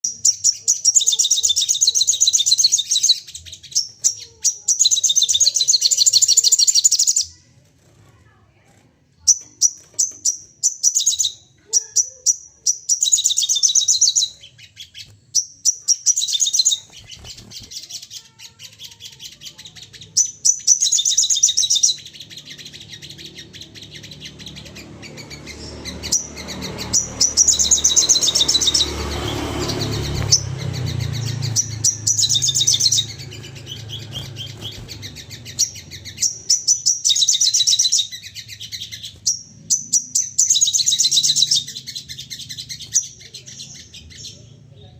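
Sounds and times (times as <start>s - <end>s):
bird high chattering calls: 0.0s - 7.4s, 9.2s - 44.7s.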